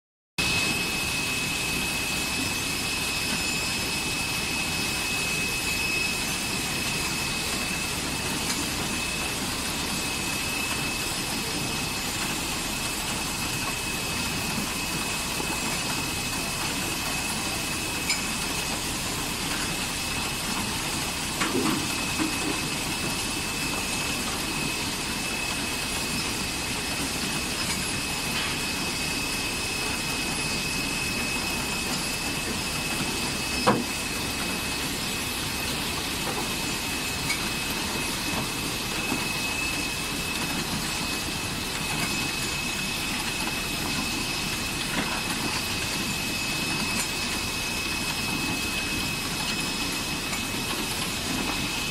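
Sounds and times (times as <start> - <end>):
high-pitched whine: 0.4 - 51.9.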